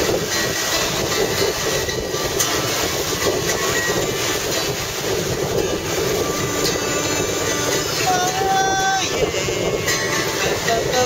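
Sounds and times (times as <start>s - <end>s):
sea surf breaking: 0.0s - 11.0s
wind across microphone: 0.0s - 11.0s.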